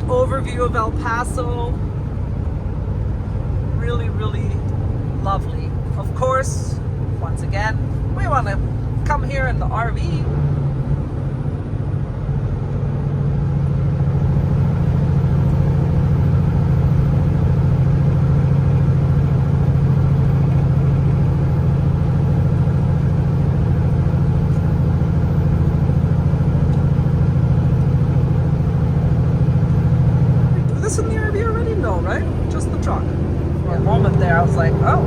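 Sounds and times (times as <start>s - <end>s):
truck diesel engine drone: 0.0s - 35.0s.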